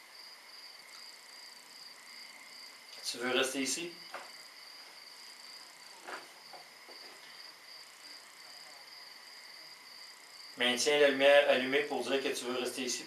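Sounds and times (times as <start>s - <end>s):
crickets chirring: 0.0s - 13.0s
faint noise: 0.0s - 13.0s.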